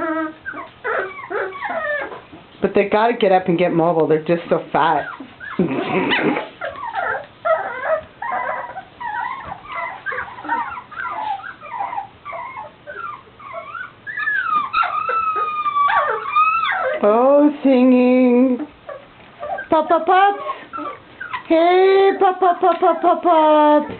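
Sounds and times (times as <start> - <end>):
puppies whimpering and whining: 0.0 - 2.5, 4.8 - 23.9.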